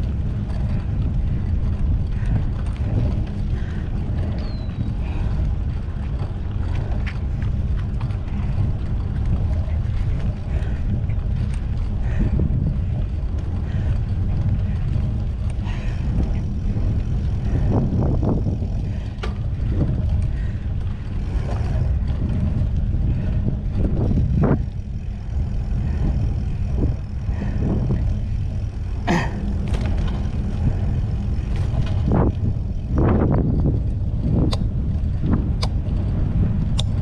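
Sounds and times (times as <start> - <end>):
bike knocks and clicks: 0.0 - 37.0
wind buffeting microphone: 0.0 - 37.0.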